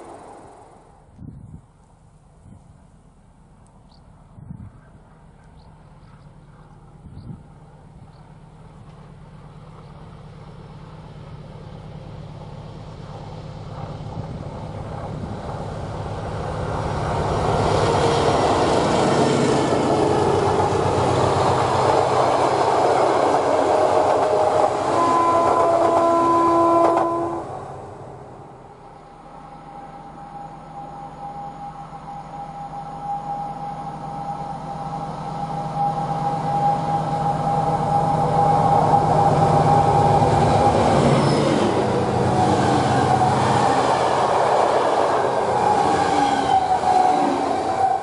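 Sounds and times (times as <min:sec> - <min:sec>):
diesel locomotive engine hum: 0:00.0 - 0:48.0.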